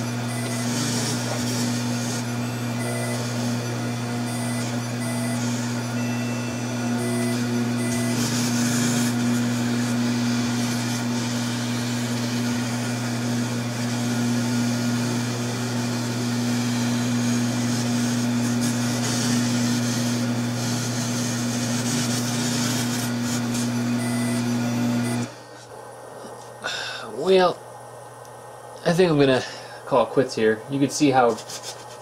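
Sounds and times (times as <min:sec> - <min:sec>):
mill motor hum: 0:00.0 - 0:26.4.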